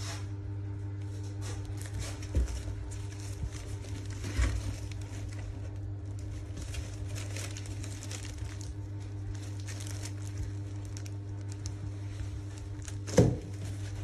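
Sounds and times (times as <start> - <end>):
steady low hum: 0.0 - 14.0
plastic and paper wrapping crinkling: 1.0 - 14.0.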